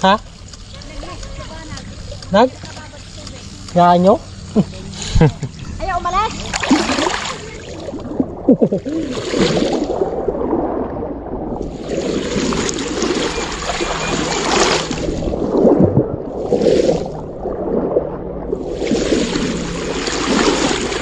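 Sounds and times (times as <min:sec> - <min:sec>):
creek water splashing: 0:00.0 - 0:21.0
steady rush of water: 0:00.0 - 0:21.0.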